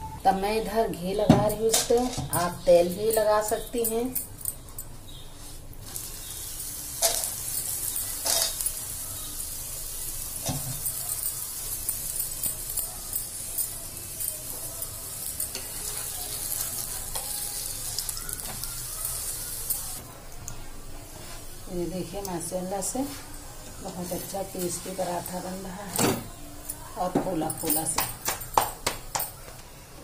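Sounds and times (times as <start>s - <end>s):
ghee sizzling under frying bread: 4.6s - 29.9s.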